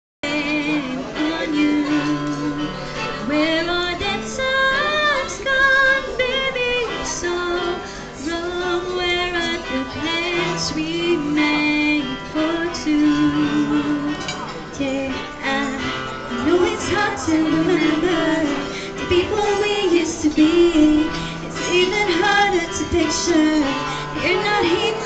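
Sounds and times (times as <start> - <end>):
electronic organ accompaniment: 0.2 - 25.0
women singing pop song: 0.2 - 25.0.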